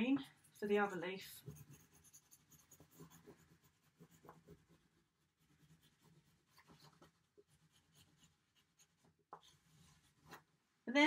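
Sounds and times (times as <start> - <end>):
oil pastel scratching on paper: 0.2 - 10.5.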